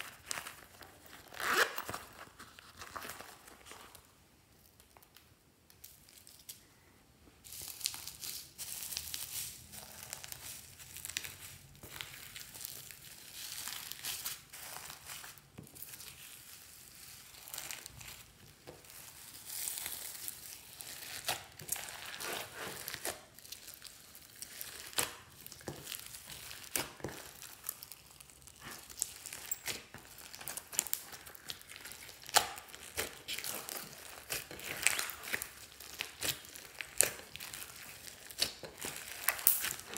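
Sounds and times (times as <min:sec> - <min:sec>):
hands squishing slime: 0:07.5 - 0:39.9.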